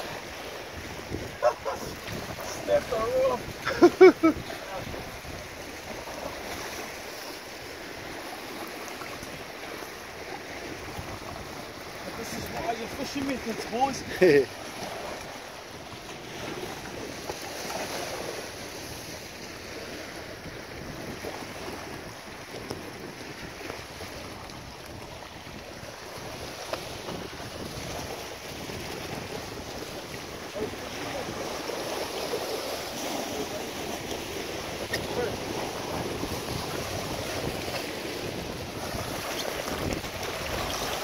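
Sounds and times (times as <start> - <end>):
surf washing against rocks: 0.0 - 41.0
wind buffeting microphone: 0.0 - 41.0.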